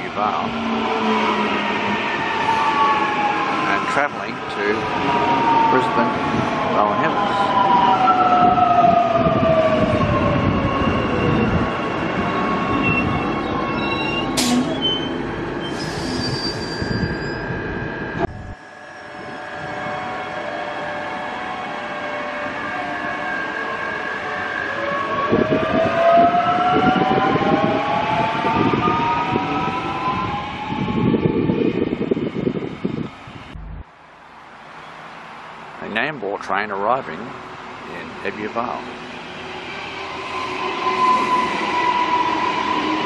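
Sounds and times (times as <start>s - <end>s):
rail and wheel noise: 0.0s - 35.8s, 36.4s - 43.0s.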